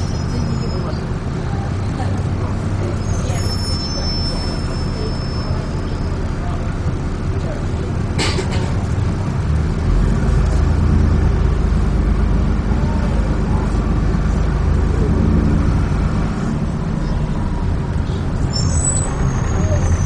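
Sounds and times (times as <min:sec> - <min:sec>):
bus engine rumble: 0:00.0 - 0:20.0
road noise: 0:00.0 - 0:20.0.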